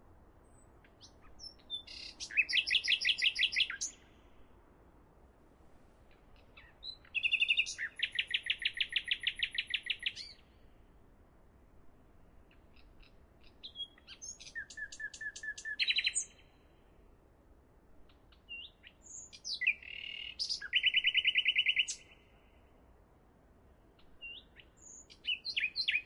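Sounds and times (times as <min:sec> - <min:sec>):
songbird singing: 0:00.0 - 0:04.8, 0:06.0 - 0:11.0, 0:11.8 - 0:23.0, 0:23.8 - 0:26.0.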